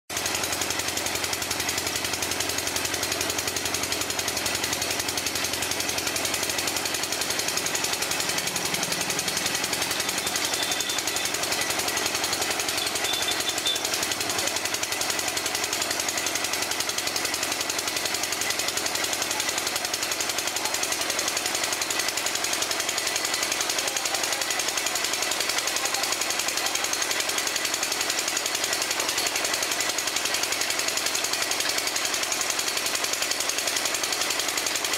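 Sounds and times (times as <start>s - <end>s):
drilling machine hammering: 0.1s - 34.9s.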